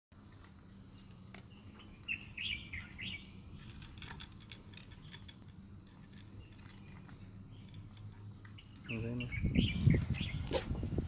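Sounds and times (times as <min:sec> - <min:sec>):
bird chirping: 0:00.2 - 0:10.8.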